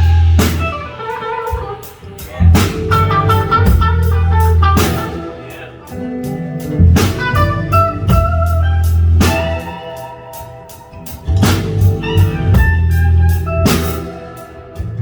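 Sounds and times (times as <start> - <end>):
bass: 0.0 - 15.0
drums and cymbal accents: 0.0 - 15.0
electric lead guitar: 0.0 - 15.0.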